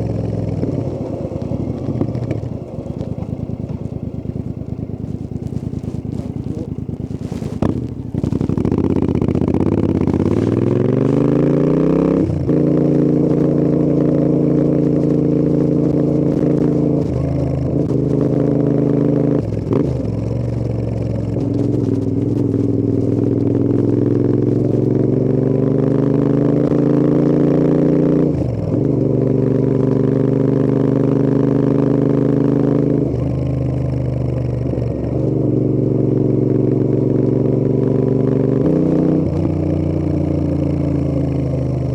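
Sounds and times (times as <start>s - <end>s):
motorcycle engine and exhaust: 0.0s - 41.9s.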